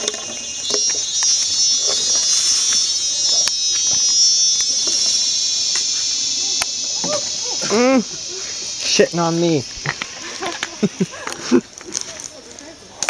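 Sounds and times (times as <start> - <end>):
high-pitched insect buzzing: 0.0 - 11.7.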